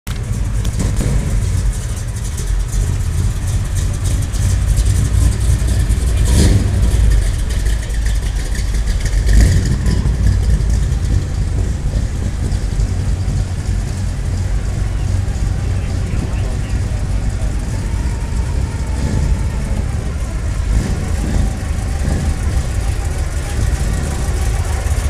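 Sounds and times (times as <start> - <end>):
car engines rumbling: 0.0 - 25.0.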